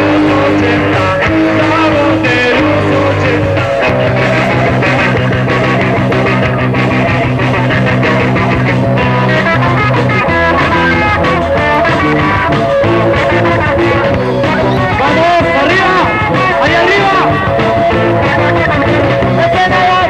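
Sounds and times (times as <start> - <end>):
electric guitar chords: 0.0 - 20.0
rock band playing live: 0.0 - 20.0.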